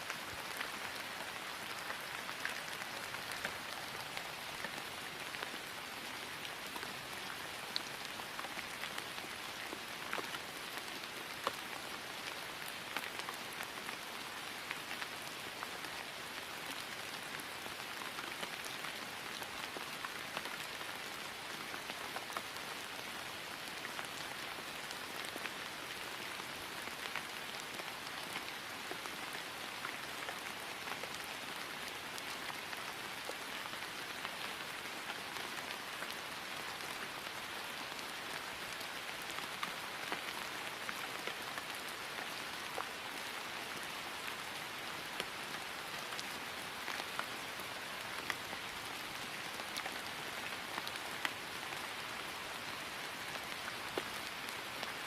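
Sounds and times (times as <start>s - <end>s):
rain falling on grass: 0.0s - 55.0s.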